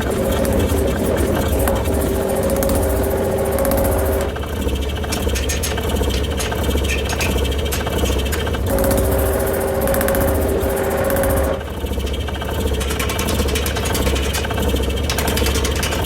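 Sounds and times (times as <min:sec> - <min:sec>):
motor hum: 0:00.0 - 0:16.0
power hammer knocking: 0:00.0 - 0:16.0
steady humming tone: 0:00.0 - 0:16.0.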